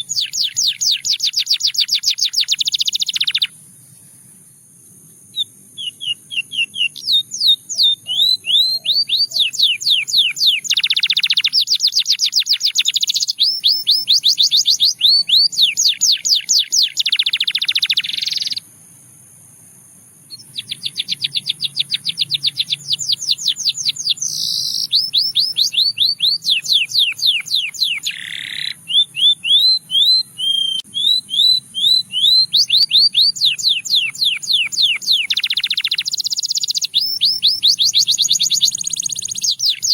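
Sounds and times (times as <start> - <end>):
canary singing: 0.0 - 3.7, 5.3 - 18.6, 20.3 - 39.9.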